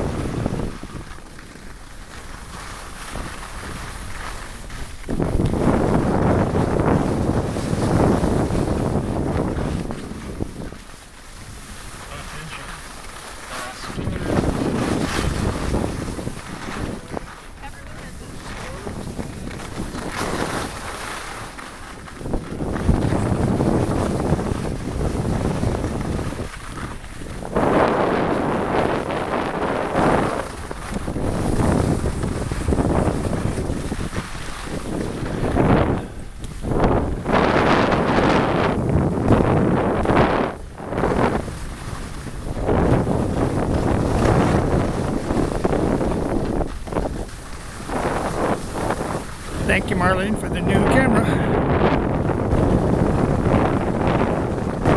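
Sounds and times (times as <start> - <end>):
skis scraping over snow: 0.0 - 54.9
wind rushing over microphone: 0.0 - 54.9.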